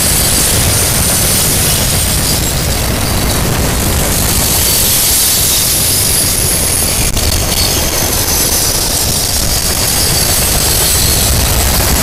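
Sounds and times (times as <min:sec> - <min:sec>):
hiss: 0:00.0 - 0:12.0
train wheels rumbling on rail: 0:00.0 - 0:12.0.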